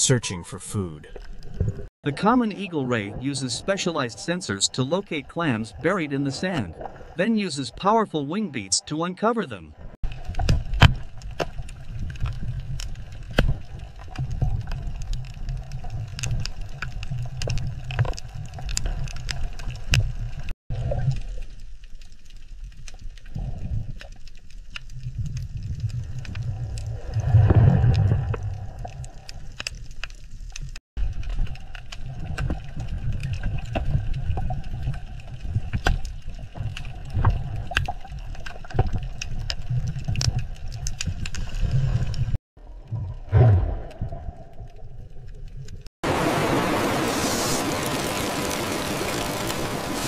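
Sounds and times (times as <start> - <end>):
reef clicks and crackles: 1.1 - 7.9, 10.0 - 43.2, 43.8 - 50.0
underwater low rumble: 9.8 - 50.0.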